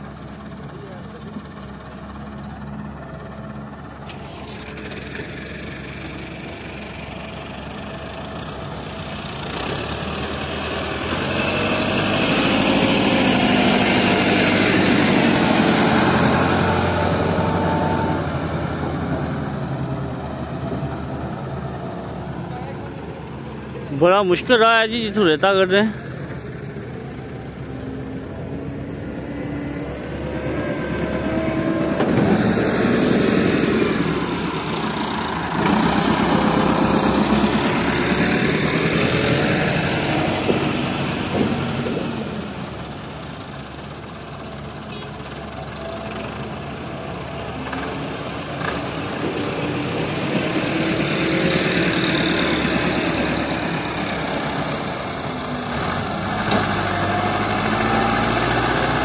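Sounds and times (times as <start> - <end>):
diesel tractor engine under load: 0.0 - 59.0.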